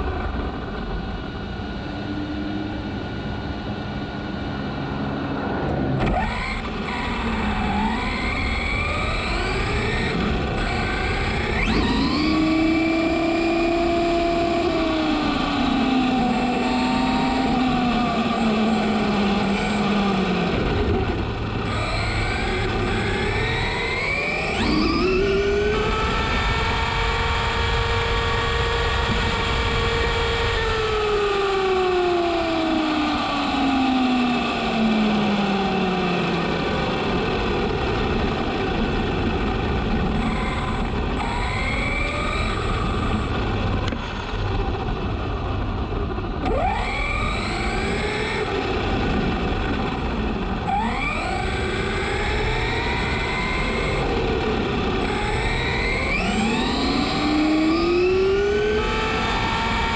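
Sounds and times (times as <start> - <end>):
rc truck motor whining: 6.0 - 59.9.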